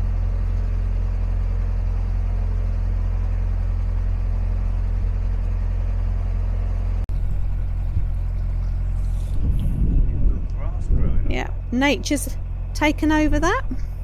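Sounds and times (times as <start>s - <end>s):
boat diesel engine droning: 0.0s - 14.0s.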